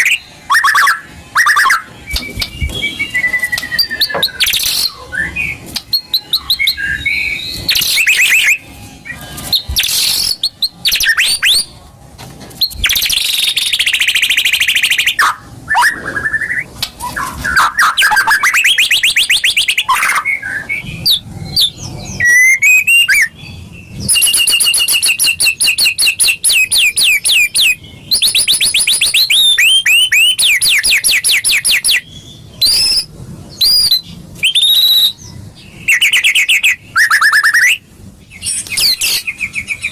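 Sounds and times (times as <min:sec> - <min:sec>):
bird singing whistles and trills: 0:00.0 - 0:11.7, 0:12.6 - 0:39.9.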